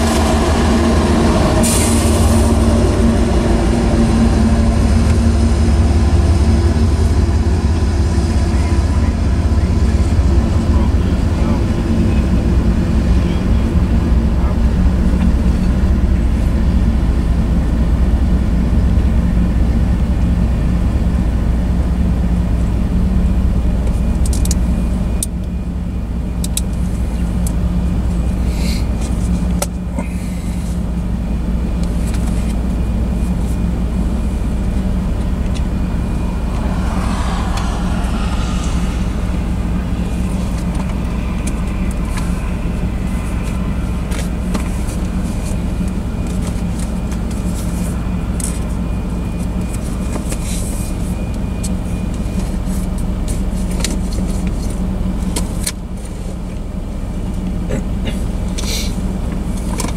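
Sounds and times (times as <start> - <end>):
diesel locomotive drone: 0.0 - 59.9.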